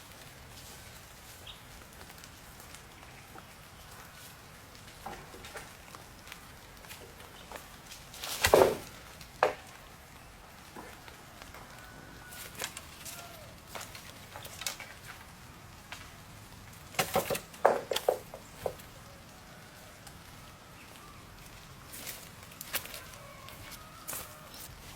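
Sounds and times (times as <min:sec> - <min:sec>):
rustles crackles and knocks: 0:00.0 - 0:24.9.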